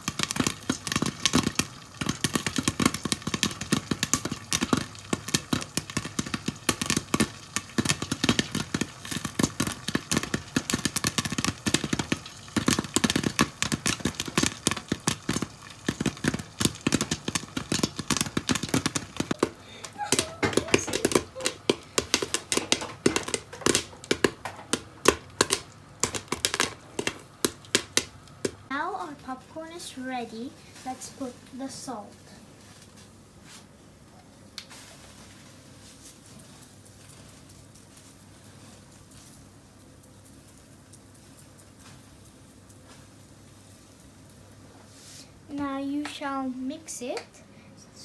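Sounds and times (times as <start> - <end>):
popcorn popping in a pan: 0.0 - 33.3, 34.5 - 47.4.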